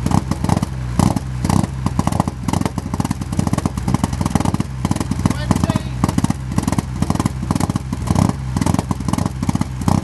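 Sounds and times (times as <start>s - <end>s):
car engine rough idle: 0.0s - 10.0s
engine throttle blips: 0.0s - 10.0s.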